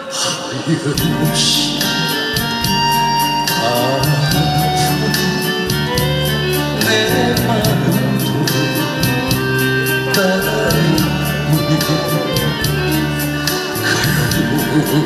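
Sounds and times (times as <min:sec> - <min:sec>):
backing track through speakers: 0:00.0 - 0:15.0
sustained bass line: 0:00.7 - 0:15.0
steady drum beat: 0:00.8 - 0:15.0.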